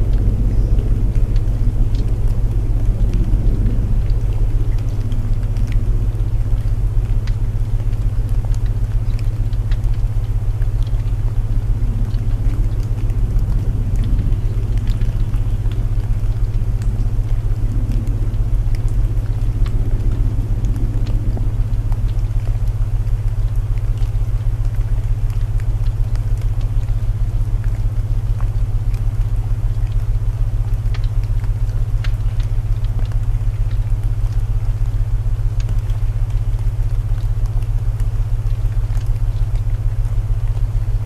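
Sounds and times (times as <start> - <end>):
crackling wood fire: 0.0 - 41.0
low tone hum: 0.0 - 41.0
rain: 0.0 - 41.0.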